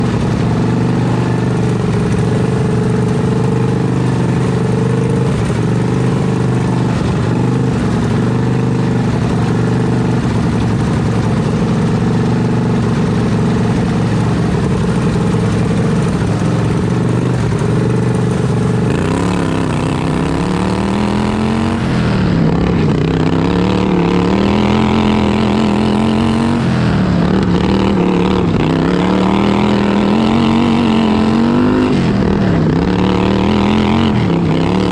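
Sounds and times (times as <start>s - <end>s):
lawn tractor engine revving: 0.0s - 34.9s.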